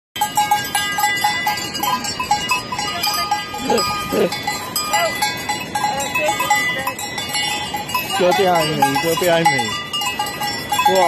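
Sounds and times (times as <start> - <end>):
goat bells clinking: 0.2 - 11.0.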